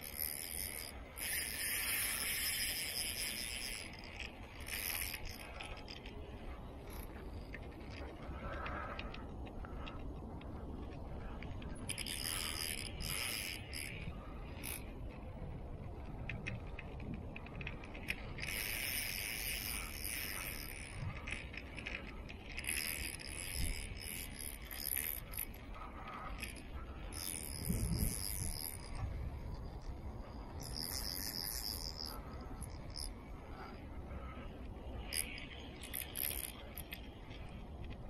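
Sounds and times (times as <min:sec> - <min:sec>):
fishing reel whirring: 0:00.0 - 0:09.2, 0:10.7 - 0:38.0.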